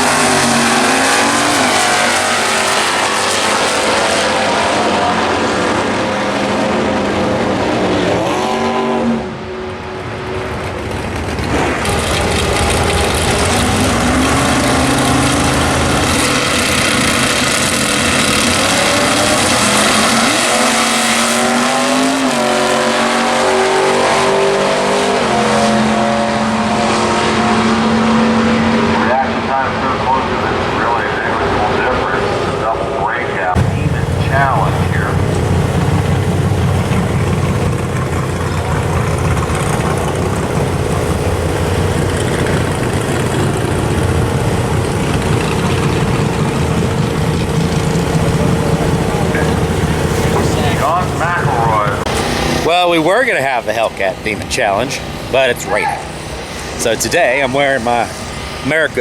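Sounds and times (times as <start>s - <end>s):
car engines at full throttle: 0.0s - 59.0s.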